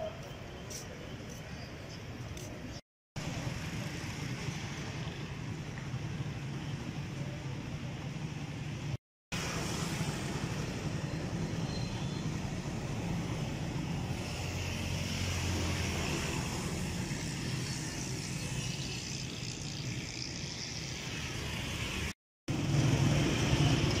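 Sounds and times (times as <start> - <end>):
road noise: 0.0 - 24.0
vehicle engines humming: 0.6 - 24.0.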